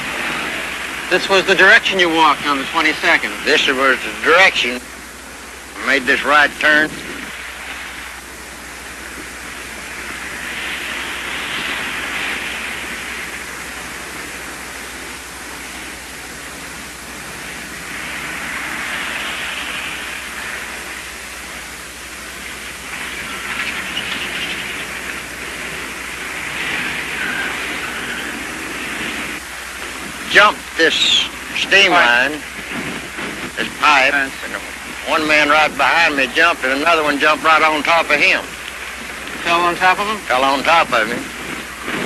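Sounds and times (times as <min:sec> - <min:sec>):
outdoor rushing noise: 0:00.0 - 0:42.0.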